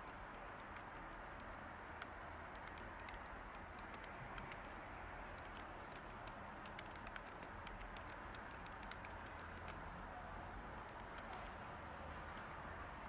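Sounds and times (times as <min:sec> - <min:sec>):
typing on computer keyboard: 0:00.0 - 0:09.9, 0:10.8 - 0:11.6.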